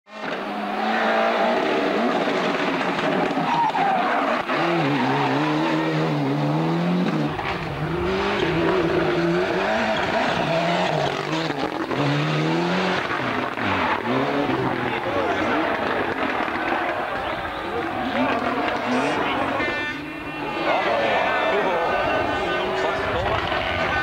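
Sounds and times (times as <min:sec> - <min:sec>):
rally car engine at full throttle: 0:00.1 - 0:24.0.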